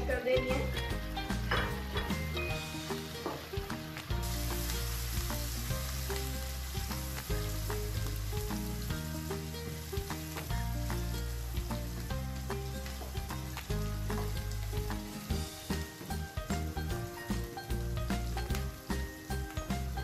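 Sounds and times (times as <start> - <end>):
onion sizzling in hot oil: 0.0 - 20.0
soft background music: 0.0 - 20.0.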